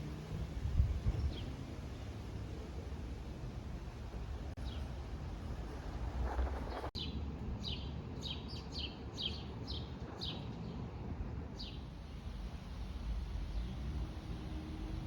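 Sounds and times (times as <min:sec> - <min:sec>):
low rumble of wind: 0:00.0 - 0:15.0.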